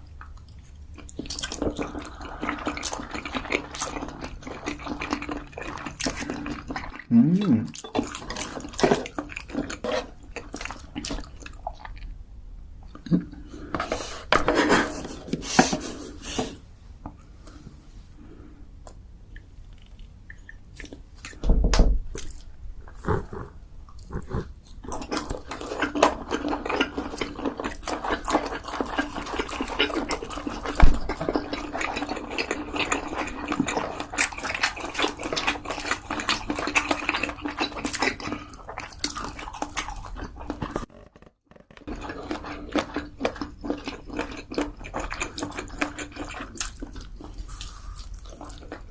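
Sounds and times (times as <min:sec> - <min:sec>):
wet chewing: 0:00.0 - 0:12.2, 0:18.9 - 0:21.4, 0:22.1 - 0:48.9.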